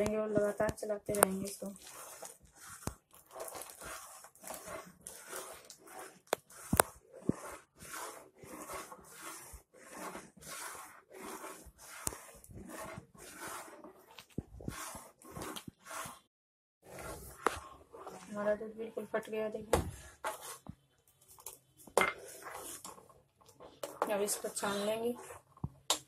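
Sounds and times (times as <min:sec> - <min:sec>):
spoon stirring milk in pot: 0:00.0 - 0:16.2, 0:16.9 - 0:19.2, 0:20.0 - 0:26.0.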